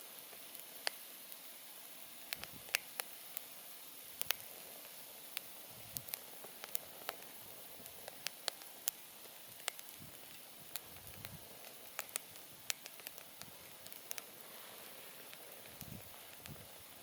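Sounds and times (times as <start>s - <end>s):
campfire crackling and popping: 0.0s - 17.0s
soft hiss: 0.0s - 17.0s.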